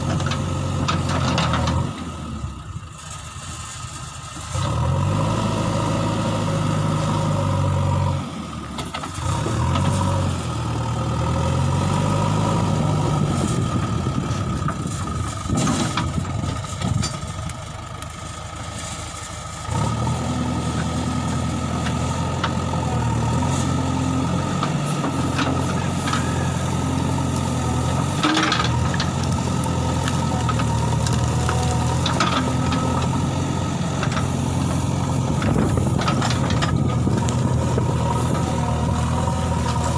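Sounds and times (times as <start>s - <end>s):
diesel engine working: 0.0s - 39.9s.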